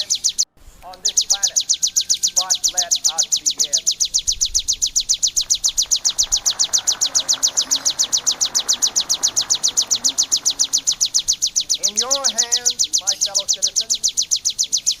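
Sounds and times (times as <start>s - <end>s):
bird chirping rapidly: 0.0s - 15.0s.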